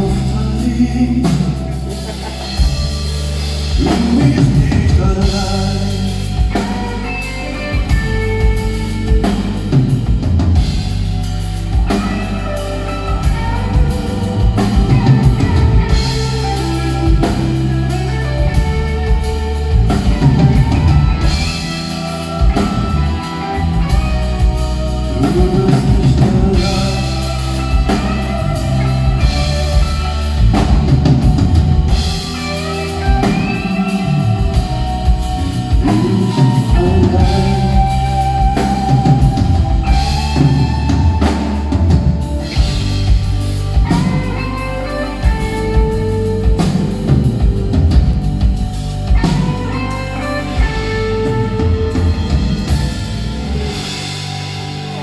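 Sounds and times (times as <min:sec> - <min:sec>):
bass: 0:00.0 - 0:55.0
drum kit: 0:00.0 - 0:55.0
electric guitars: 0:00.0 - 0:55.0
keyboards: 0:00.0 - 0:55.0.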